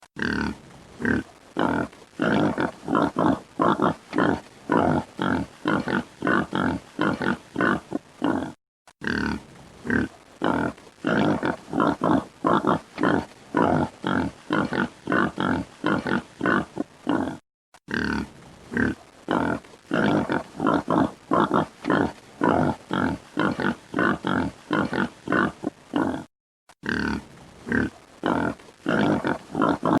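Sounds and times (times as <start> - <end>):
boar grunting: 0.1 - 30.0.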